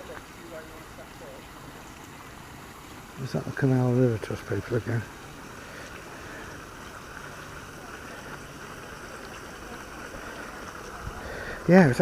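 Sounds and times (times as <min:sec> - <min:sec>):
water rushing from lock outlet: 0:00.0 - 0:12.0.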